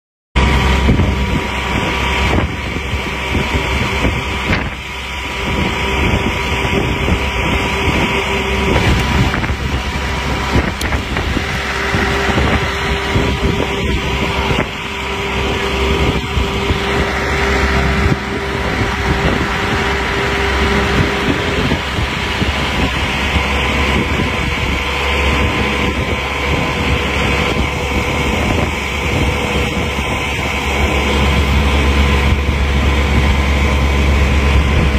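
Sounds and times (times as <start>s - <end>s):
motorway traffic noise: 0.4s - 34.9s
steady tone: 0.4s - 34.9s.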